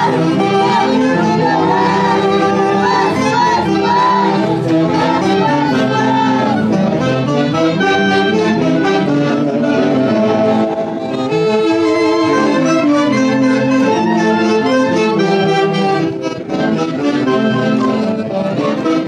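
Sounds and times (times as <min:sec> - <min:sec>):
dense band accompaniment: 0:00.0 - 0:19.0
saxophone section melody: 0:00.0 - 0:19.0.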